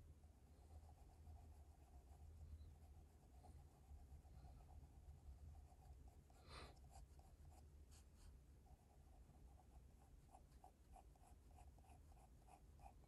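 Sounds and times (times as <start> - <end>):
pencil scratching on paper: 0.6 - 13.0.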